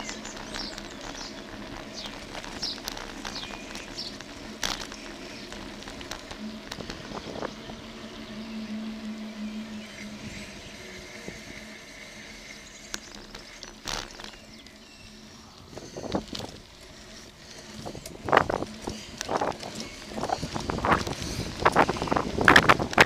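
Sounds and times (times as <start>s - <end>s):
bicycle rattles and knocks: 0.0s - 23.0s
bicycle rolling on tarmac: 0.0s - 23.0s
low steady hum: 0.0s - 23.0s.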